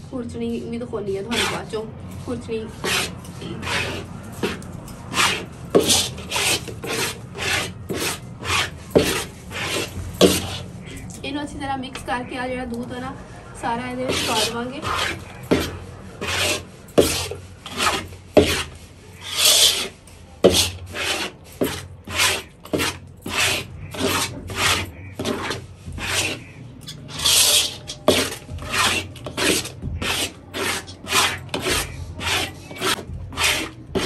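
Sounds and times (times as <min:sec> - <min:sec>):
rhythmic scraping of batter: 0:00.7 - 0:11.1, 0:12.1 - 0:34.0.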